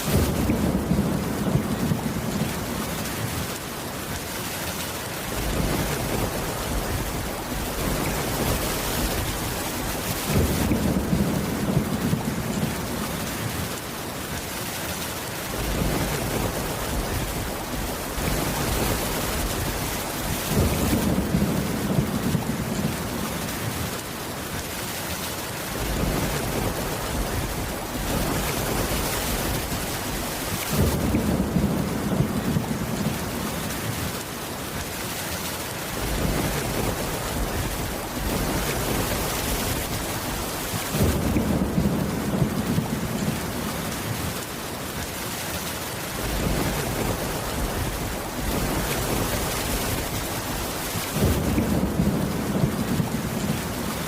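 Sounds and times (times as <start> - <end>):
low rolls of thunder: 0.0 - 3.6, 5.3 - 13.8, 15.5 - 24.1, 25.7 - 34.3, 35.9 - 44.5, 46.1 - 54.0
heavy rain: 0.0 - 54.0.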